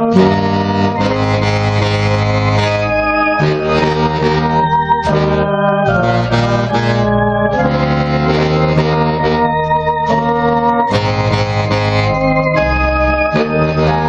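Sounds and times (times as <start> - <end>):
baritone saxophone low line: 0.0 - 14.0
trumpet playing hymn melody: 0.0 - 14.0.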